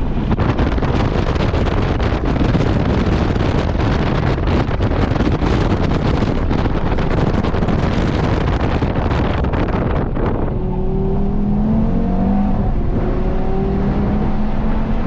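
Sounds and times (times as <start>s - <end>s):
car running noise: 0.0s - 15.0s
wind buffeting microphone: 0.0s - 15.0s.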